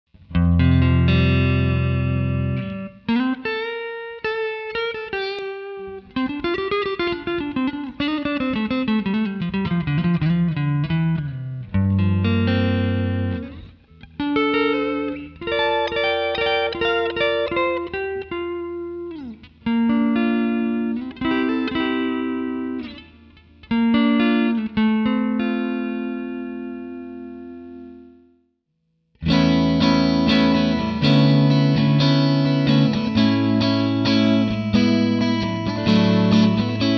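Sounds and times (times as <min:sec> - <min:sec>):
clean electric guitar notes and chords: 0:00.2 - 0:28.4, 0:29.2 - 0:36.9.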